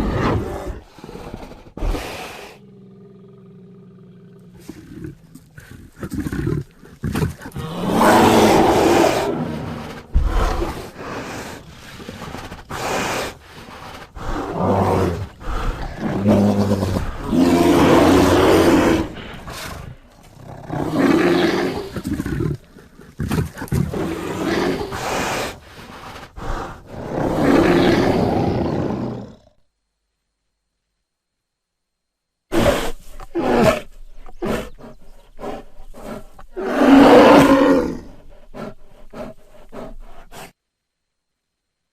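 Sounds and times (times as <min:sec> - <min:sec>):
bear growling: 0:00.0 - 0:29.6, 0:32.5 - 0:40.6
bear roaring: 0:00.0 - 0:29.6, 0:32.5 - 0:40.5.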